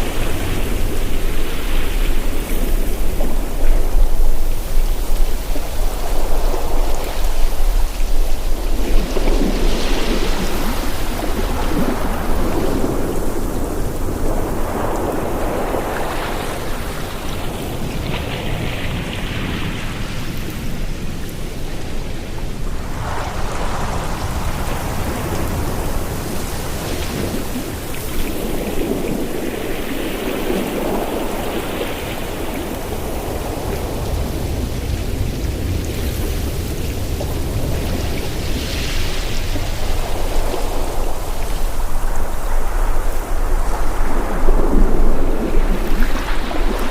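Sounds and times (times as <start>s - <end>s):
ocean waves washing ashore: 0.0s - 46.9s.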